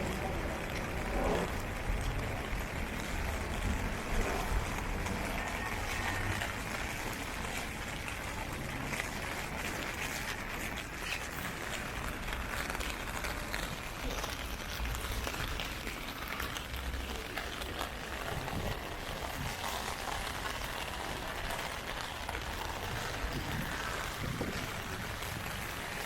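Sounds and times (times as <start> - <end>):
heavy rain on street: 0.0 - 26.0.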